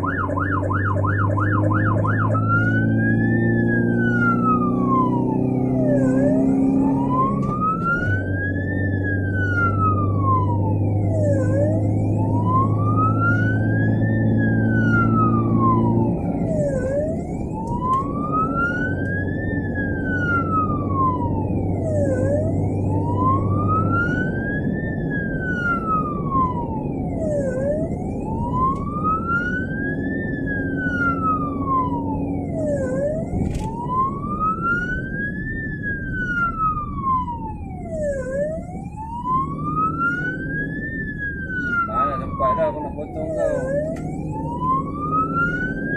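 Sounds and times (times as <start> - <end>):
ambulance siren wailing: 0.0 - 45.9
engine and road noise: 0.0 - 45.9.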